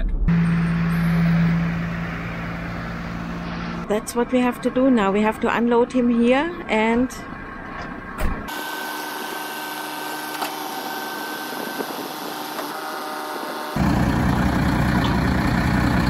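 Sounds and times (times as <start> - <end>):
tow truck diesel engine running: 0.3 - 16.0.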